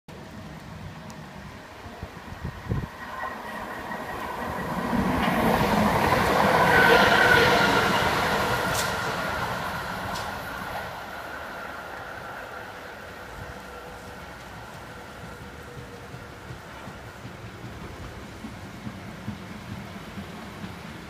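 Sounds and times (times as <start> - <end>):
train passing at speed: 0.1 - 21.0
sharp clicks of train wheels: 3.9 - 21.0.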